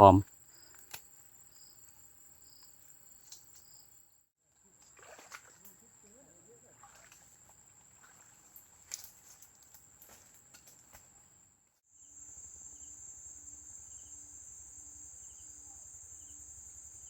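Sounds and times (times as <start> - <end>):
faint insects chirping: 0.0 - 17.0.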